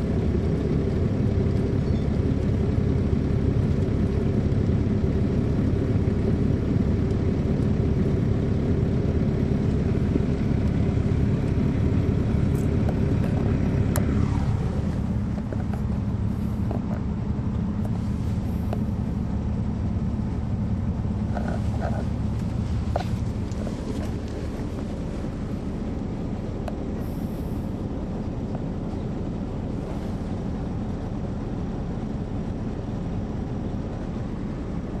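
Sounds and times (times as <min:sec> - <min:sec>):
diesel bus engine drone: 0:00.0 - 0:35.0.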